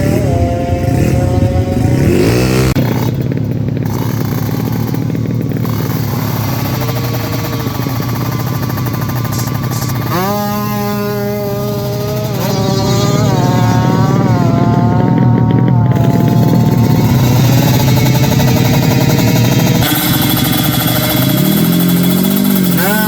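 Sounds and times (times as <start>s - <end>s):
motorcycle engine at full throttle: 0.0s - 23.0s.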